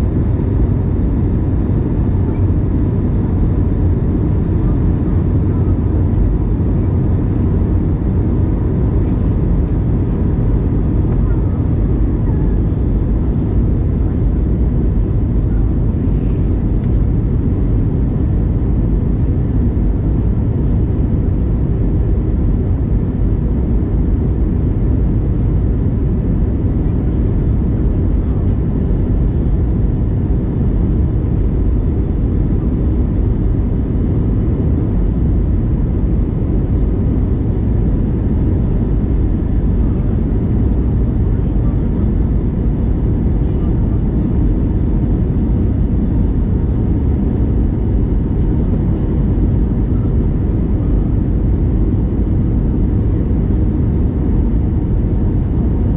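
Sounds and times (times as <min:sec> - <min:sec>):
airflow rush in plane cabin: 0:00.0 - 0:55.9
faint engine hum: 0:00.0 - 0:55.9.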